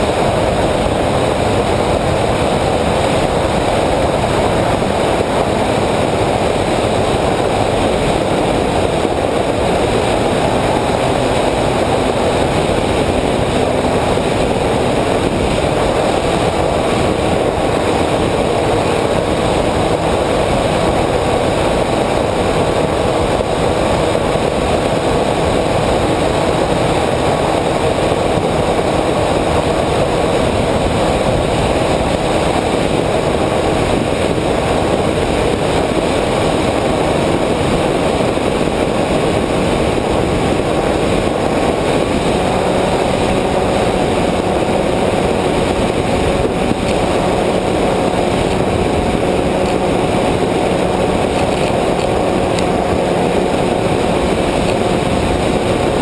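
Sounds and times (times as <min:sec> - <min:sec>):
propeller motor running: 0:00.0 - 0:56.0
rushing wind: 0:00.0 - 0:56.0.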